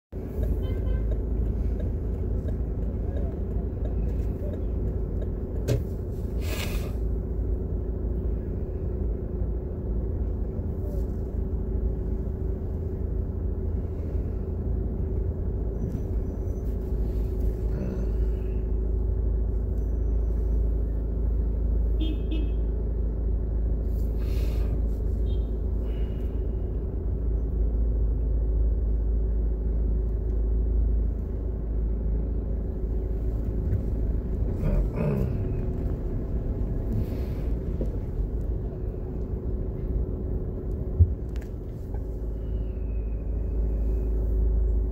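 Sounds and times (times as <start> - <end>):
car engine and tyres rumble: 0.1 - 44.9.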